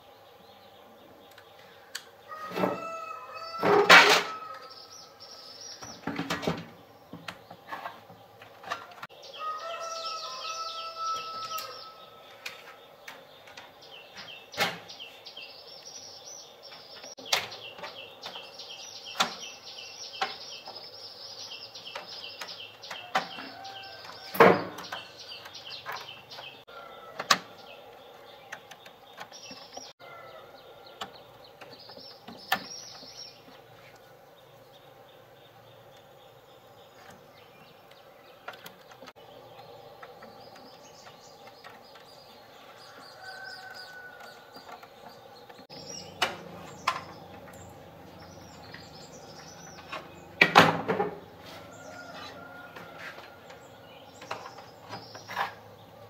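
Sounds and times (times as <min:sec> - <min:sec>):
small birds chirping: 0:00.0 - 0:03.6, 0:04.3 - 0:56.0.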